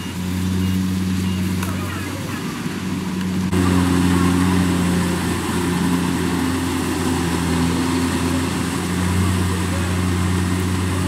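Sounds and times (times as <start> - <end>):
combine harvester engine humming: 0.0 - 11.0.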